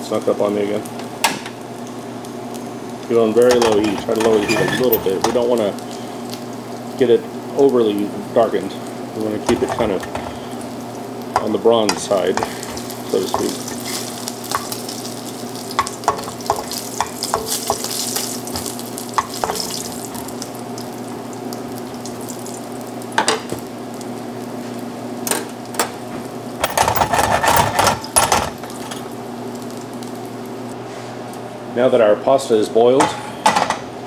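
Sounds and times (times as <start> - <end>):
meat sizzling in a pan: 0.0 - 30.7.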